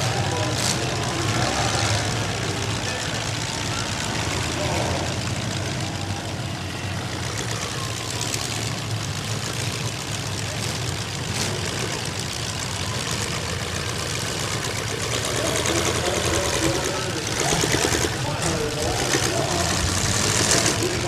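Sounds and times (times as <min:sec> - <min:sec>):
car engines idling: 0:00.0 - 0:21.0.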